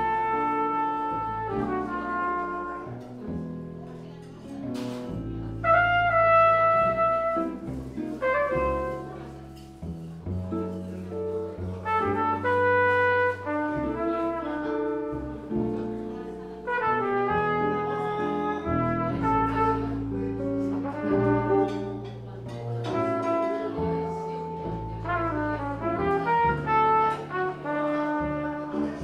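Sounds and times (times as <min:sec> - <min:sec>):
upright bass: 0:00.0 - 0:03.8, 0:04.6 - 0:29.0
guitar: 0:00.0 - 0:29.0
trumpet playing jazz ballad: 0:00.0 - 0:29.0.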